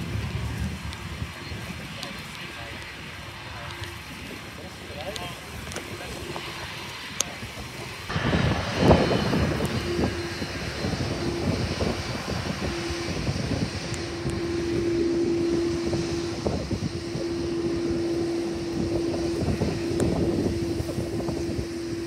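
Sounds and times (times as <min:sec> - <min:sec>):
jet engines idling hum: 0:00.0 - 0:22.0
wind buffeting microphone: 0:00.0 - 0:22.0.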